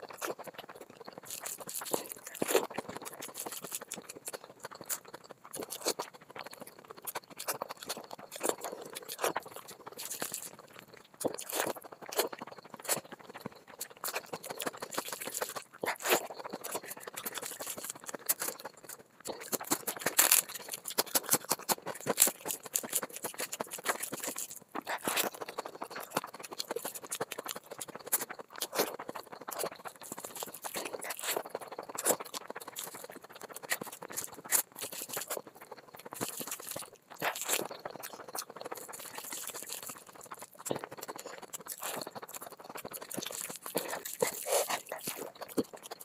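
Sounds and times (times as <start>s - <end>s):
wet chewing and lip smacking: 0.0s - 46.0s.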